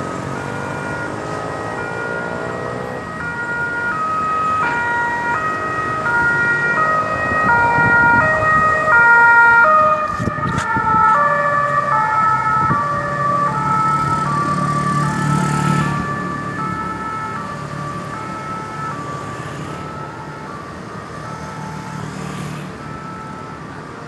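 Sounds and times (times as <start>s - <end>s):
two-tone ambulance siren: 0.0s - 24.0s
vehicle engine and road rumble: 0.0s - 24.0s.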